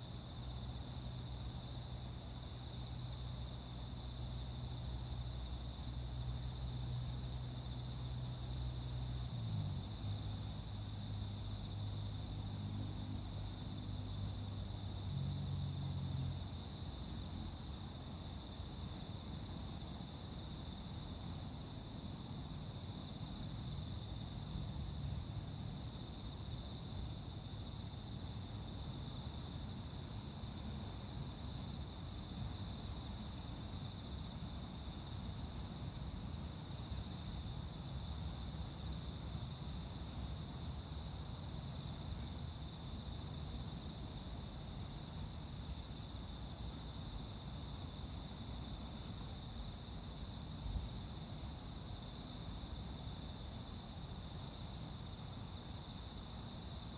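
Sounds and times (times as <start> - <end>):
crickets chirring: 0.0 - 56.9.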